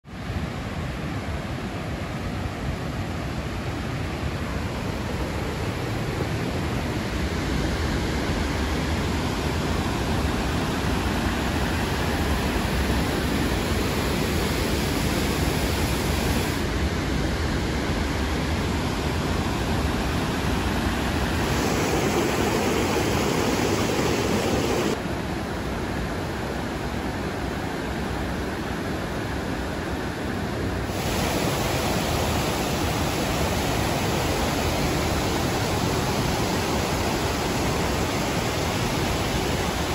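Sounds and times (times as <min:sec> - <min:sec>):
rushing waterfalls: 0:00.1 - 0:39.9.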